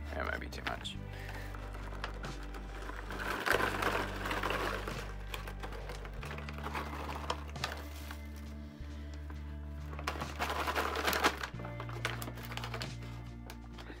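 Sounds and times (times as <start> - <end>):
background music with low notes: 0.0 - 14.0
foil bag crinkling: 0.6 - 8.7, 9.5 - 14.0.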